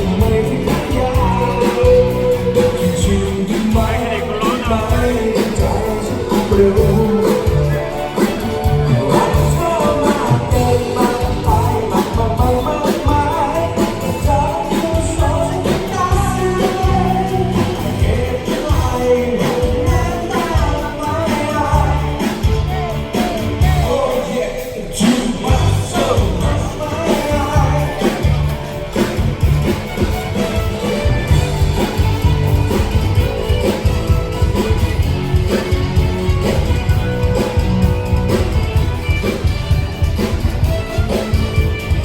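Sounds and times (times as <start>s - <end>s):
song with singer and band: 0.0s - 42.0s.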